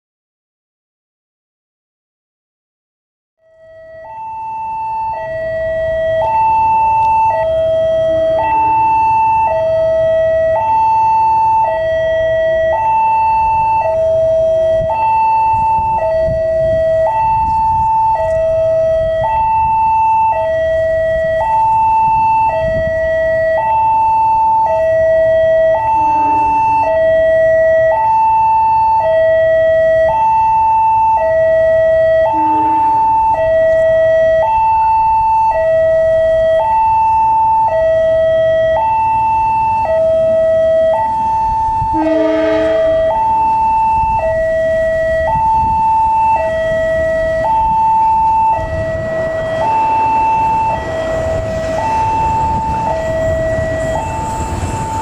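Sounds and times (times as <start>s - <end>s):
two-tone crossing alarm: 3.4s - 55.0s.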